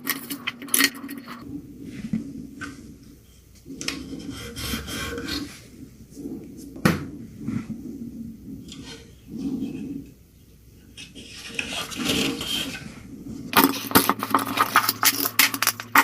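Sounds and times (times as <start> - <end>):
metal scraping and rubbing: 0.0 - 16.0.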